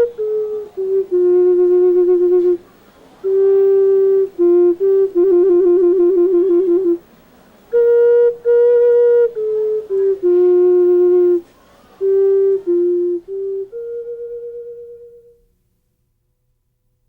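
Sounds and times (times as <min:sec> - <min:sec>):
ocarina playing slow melody: 0:00.0 - 0:07.0, 0:07.7 - 0:15.4.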